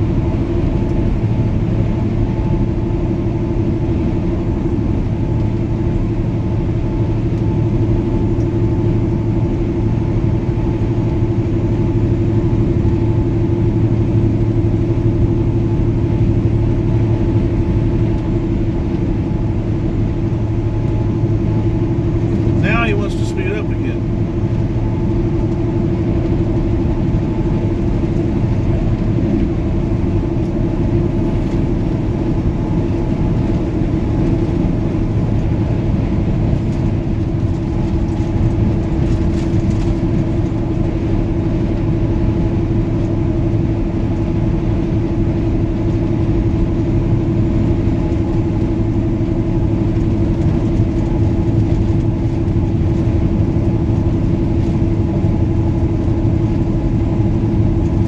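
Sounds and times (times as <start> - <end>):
road and tyre noise: 0.0 - 58.0
truck diesel engine drone: 0.0 - 58.0.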